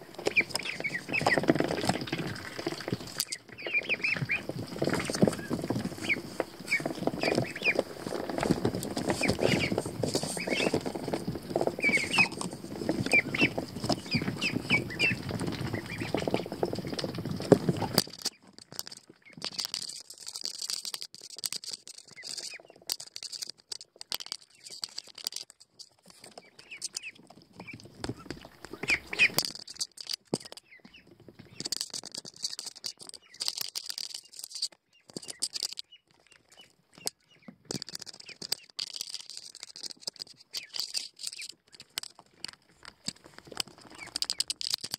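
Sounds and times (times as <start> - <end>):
ducklings peeping: 0.0 - 20.7, 22.0 - 23.2, 26.1 - 33.6, 34.2 - 38.8, 39.4 - 44.6
rustling against microphone: 0.0 - 44.9
scratching in wood shavings: 0.0 - 44.9.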